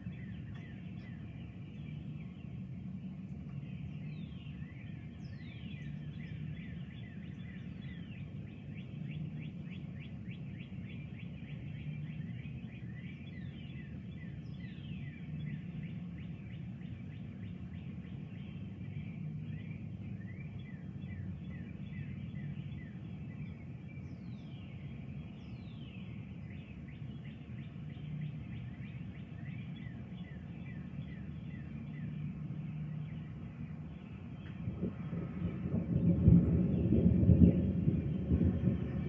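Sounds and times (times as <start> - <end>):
low background rumble: 0.0 - 39.0
songbirds chirping: 0.0 - 39.0.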